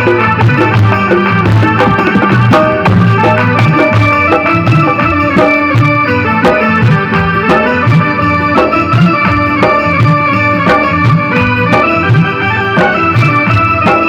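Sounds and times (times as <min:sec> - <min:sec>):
steady drum beat: 0:00.0 - 0:14.0
sustained melody line: 0:00.0 - 0:14.0.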